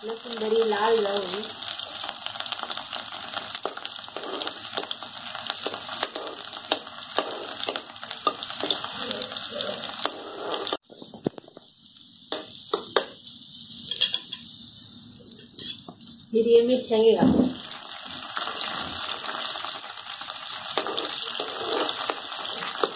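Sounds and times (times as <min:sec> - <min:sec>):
garlic sizzling in oil: 0:00.0 - 0:22.9.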